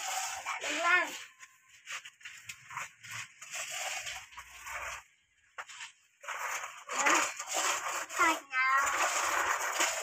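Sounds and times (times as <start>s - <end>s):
sand poured into plastic truck: 0.0s - 2.0s, 2.6s - 10.0s
plastic toys scraping in sand: 0.0s - 10.0s.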